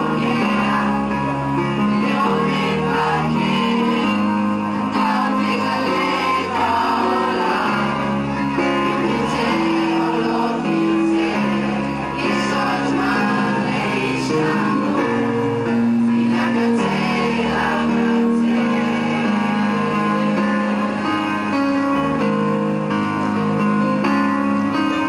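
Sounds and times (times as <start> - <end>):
group singing: 0.0 - 22.2.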